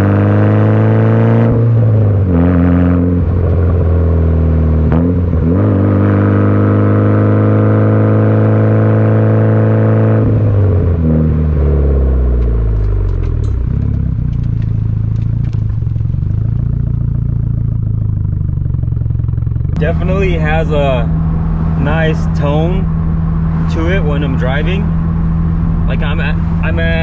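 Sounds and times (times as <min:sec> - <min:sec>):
car engine driving: 0:00.0 - 0:27.0.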